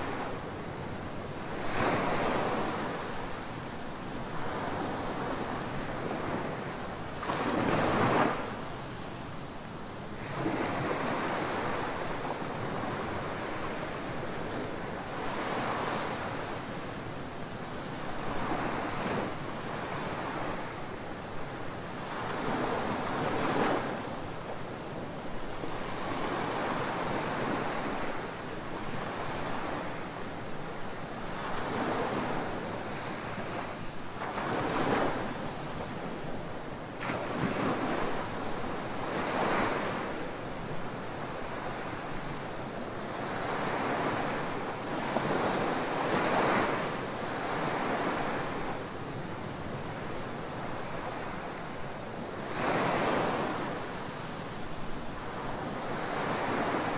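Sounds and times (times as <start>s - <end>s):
ocean waves breaking on beach: 0.0s - 56.9s.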